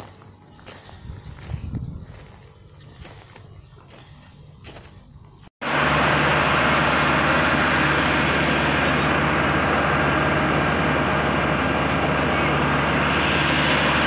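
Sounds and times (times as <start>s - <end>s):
engine running with hiss: 0.0s - 14.0s.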